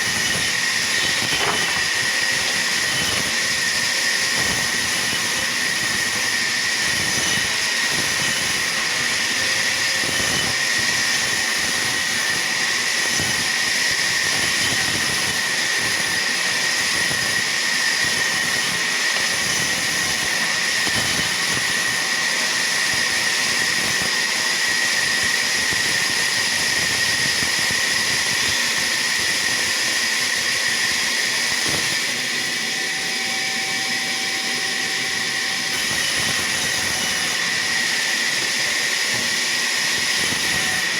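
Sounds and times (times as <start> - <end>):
sawmill saw whining: 0.0 - 40.9.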